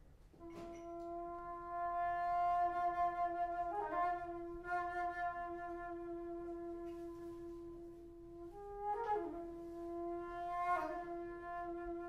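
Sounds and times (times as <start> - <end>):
alto flute long low note: 0.4 - 12.0.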